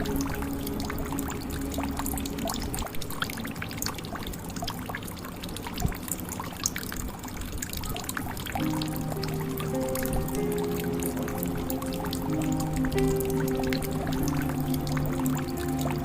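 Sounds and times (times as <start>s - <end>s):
soft musical tone: 0.0s - 6.2s, 7.0s - 16.0s
water trickling into a jug: 0.0s - 16.0s.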